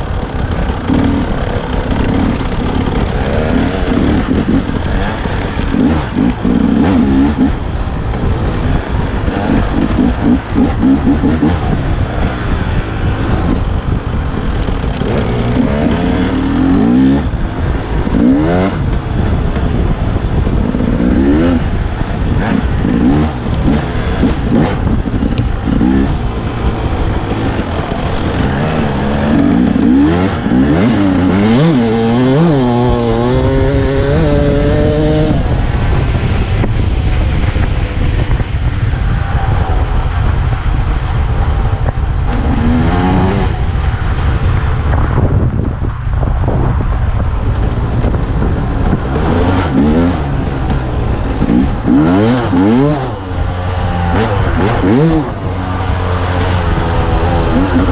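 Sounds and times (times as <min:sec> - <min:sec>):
dirt bike engine revving: 0:00.0 - 0:45.4, 0:47.6 - 0:57.9.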